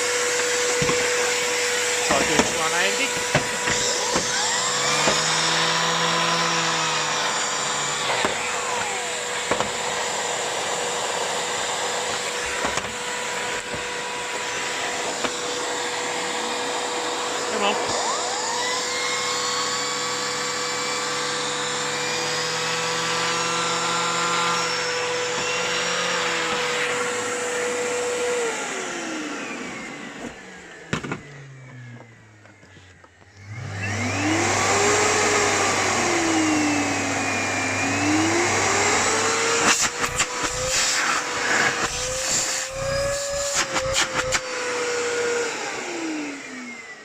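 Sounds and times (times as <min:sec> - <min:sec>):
vacuum cleaner motor running: 0:00.0 - 0:47.0.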